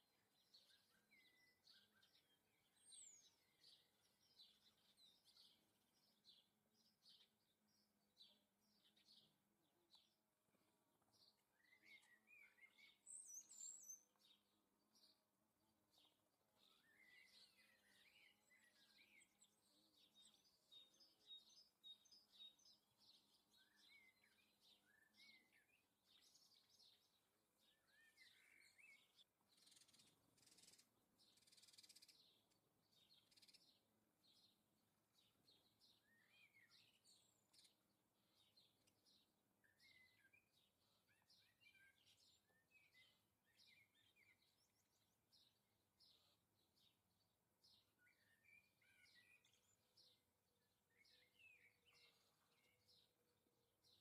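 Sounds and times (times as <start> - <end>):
small songbirds chirping: 0.0 - 54.0.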